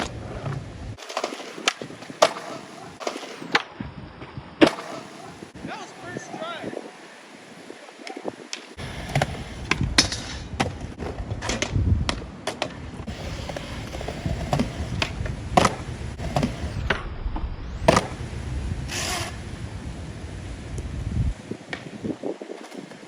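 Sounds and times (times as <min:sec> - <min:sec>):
skateboard clacks: 0:00.0 - 0:16.8, 0:17.9 - 0:23.0
skateboard wheels rolling on concrete: 0:00.0 - 0:23.0.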